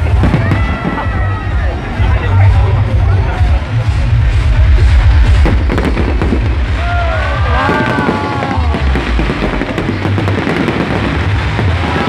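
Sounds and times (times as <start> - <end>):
crackling fireworks: 0.0 - 12.0
loud music with heavy bass: 0.0 - 12.0.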